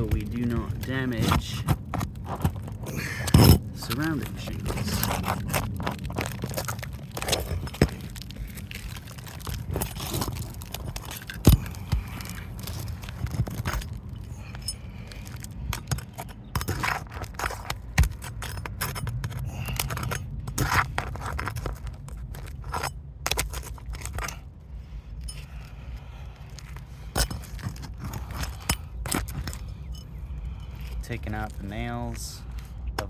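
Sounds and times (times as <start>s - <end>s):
nails pried from shingles: 0.0s - 24.5s, 26.5s - 31.0s
low steady rumble: 0.0s - 33.0s.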